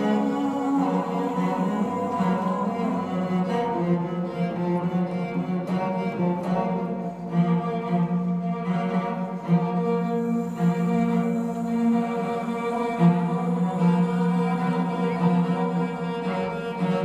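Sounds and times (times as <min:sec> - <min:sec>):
cello low sustained notes: 0:00.0 - 0:17.0
higher string lines: 0:00.0 - 0:17.0.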